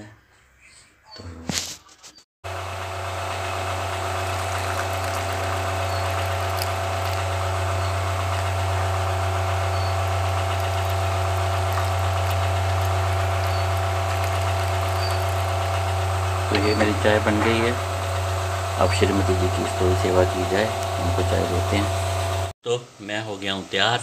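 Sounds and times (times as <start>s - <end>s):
low mechanical motor hum: 2.5s - 23.7s.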